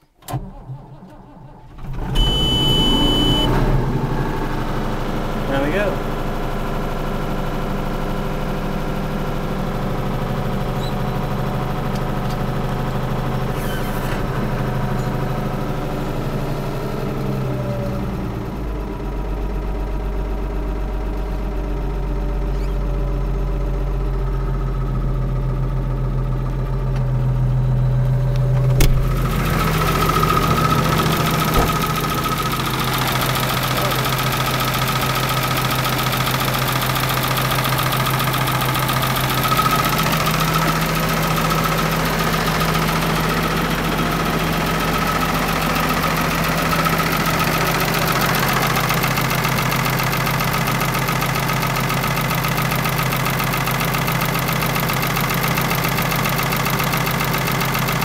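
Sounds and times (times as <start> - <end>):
tractor diesel engine idling: 0.0 - 58.0.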